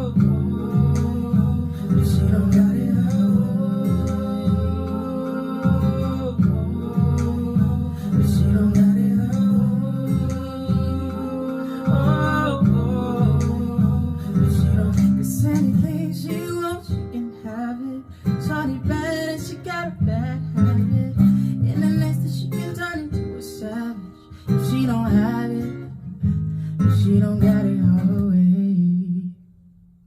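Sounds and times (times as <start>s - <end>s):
wordless singing: 0.0s - 25.8s
acoustic guitar strumming: 0.0s - 29.4s.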